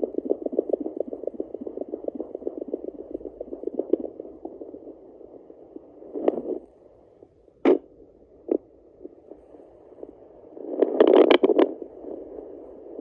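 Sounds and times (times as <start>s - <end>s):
fetal heartbeat pulsing: 0.0s - 6.7s, 7.7s - 13.0s.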